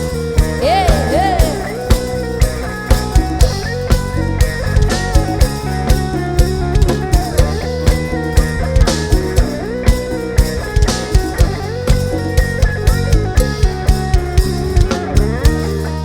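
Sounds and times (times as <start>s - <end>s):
bass: 0.0s - 16.0s
drum kit beat: 0.0s - 16.0s
lead melody line: 0.0s - 16.0s.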